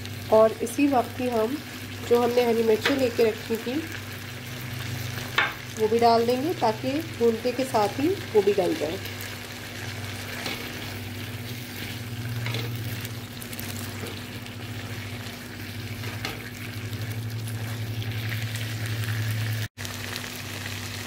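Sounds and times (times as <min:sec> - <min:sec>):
liver sizzling in oil: 0:00.0 - 0:21.0.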